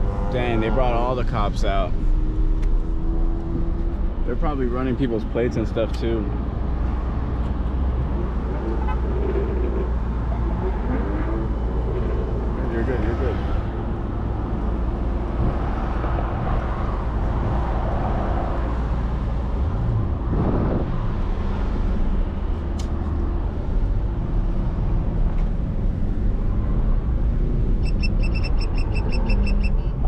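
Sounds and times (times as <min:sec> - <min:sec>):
road rumble: 0:00.0 - 0:30.0.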